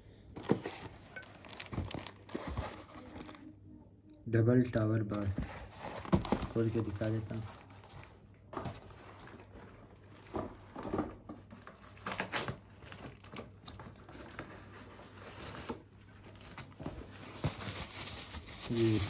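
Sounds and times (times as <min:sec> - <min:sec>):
packaging rustling and knocking: 0:00.4 - 0:03.4, 0:05.2 - 0:19.0.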